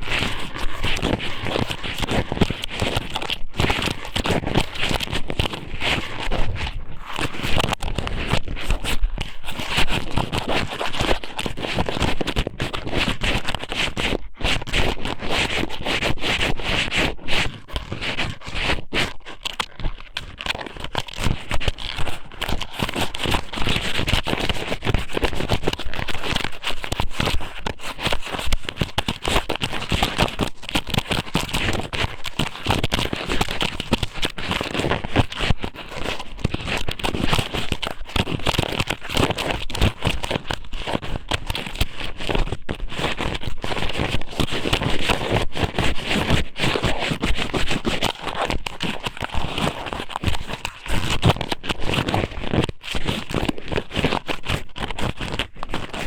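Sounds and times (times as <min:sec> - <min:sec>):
crackling and scraping on microphone: 0:00.0 - 0:56.0.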